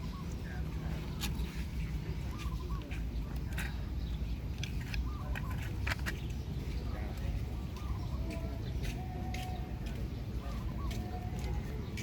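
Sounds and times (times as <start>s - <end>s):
clucking bird calls: 0.0s - 12.0s.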